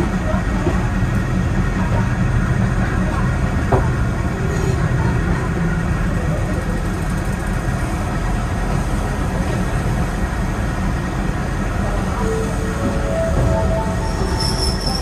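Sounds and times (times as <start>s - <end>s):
diesel train engine drone: 0.0s - 15.0s
train wheels rumbling on rails: 0.0s - 15.0s.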